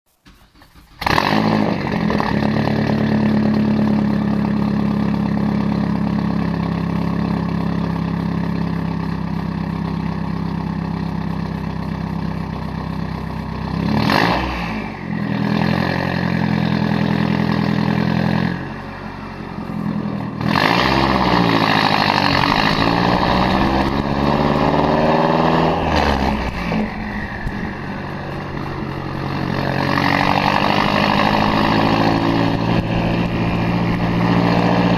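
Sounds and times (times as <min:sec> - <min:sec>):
car exhaust idling and revving: 0:00.3 - 0:34.9.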